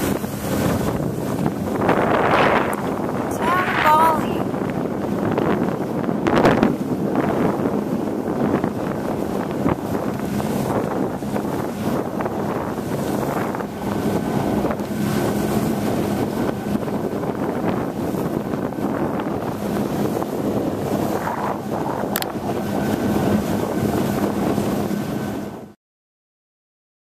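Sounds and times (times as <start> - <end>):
wind buffeting microphone: 0.0 - 25.7
boat motor running: 0.0 - 25.8.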